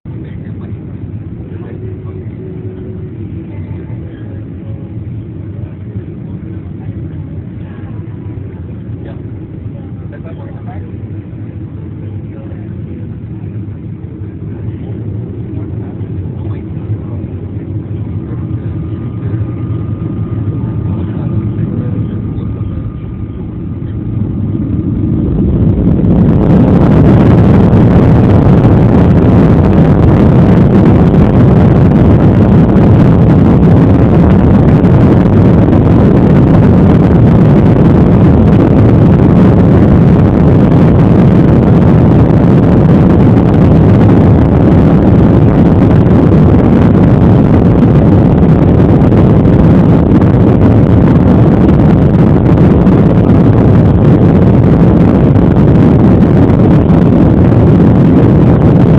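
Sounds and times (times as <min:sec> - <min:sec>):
jet engines roaring in cabin: 0:00.0 - 0:58.9.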